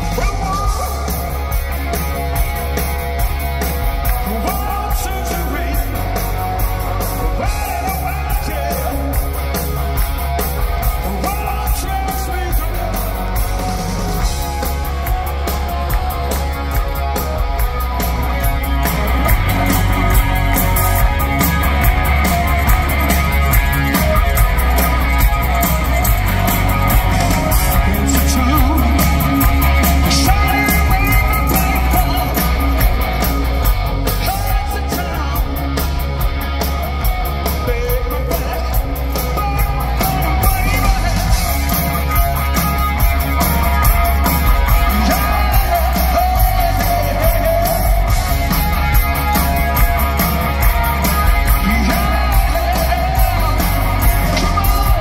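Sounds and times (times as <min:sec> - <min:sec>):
person singing lead vocal: 0:00.0 - 0:02.1, 0:04.0 - 0:55.0
bass: 0:00.0 - 0:55.0
drums: 0:00.0 - 0:55.0
electric guitars: 0:00.0 - 0:55.0.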